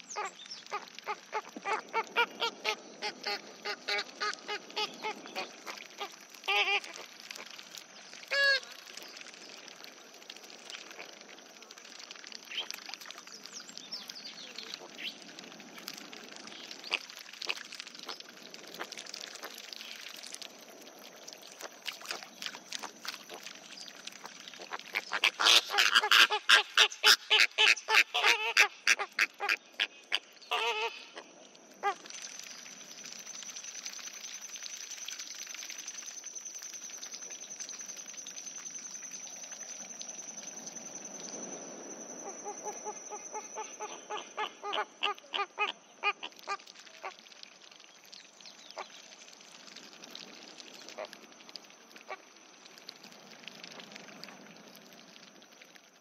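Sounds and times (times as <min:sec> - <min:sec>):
flamingos chattering and honking: 0:00.0 - 0:33.6, 0:42.2 - 0:55.5.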